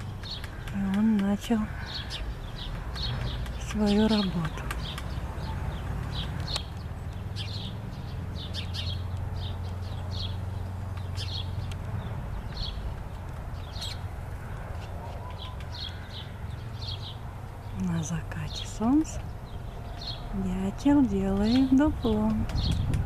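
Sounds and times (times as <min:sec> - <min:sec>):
woodpecker tapping on tree: 0:00.0 - 0:17.6, 0:19.1 - 0:23.0
small birds chirping: 0:00.0 - 0:23.0.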